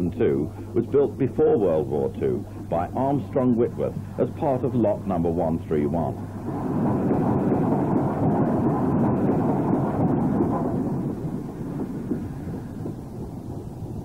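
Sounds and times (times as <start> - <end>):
steam locomotive rumbling: 0.0 - 14.0.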